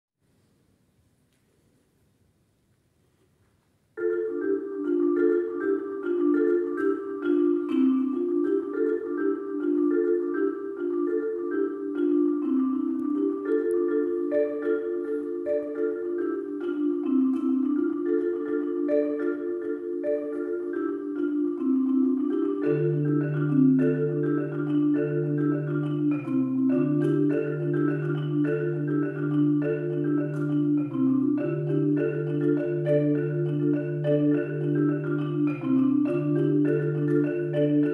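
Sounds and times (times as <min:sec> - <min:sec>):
marimba played with mallets: 0:04.0 - 0:37.9.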